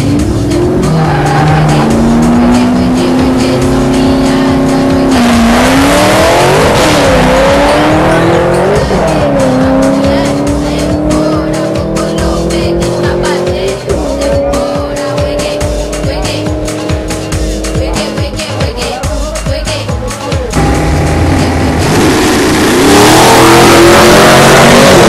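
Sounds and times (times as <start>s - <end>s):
racing engine under load: 0.0s - 18.9s, 20.6s - 25.0s.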